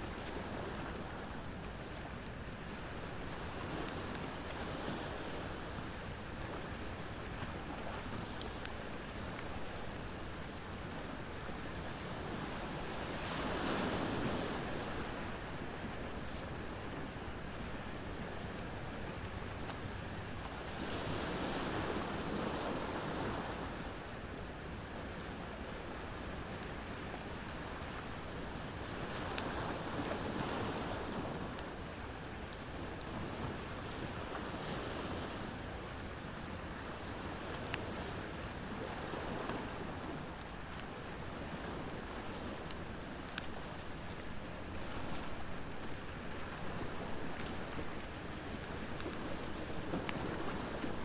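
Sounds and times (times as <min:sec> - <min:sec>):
ocean waves washing ashore: 0:00.0 - 0:51.0.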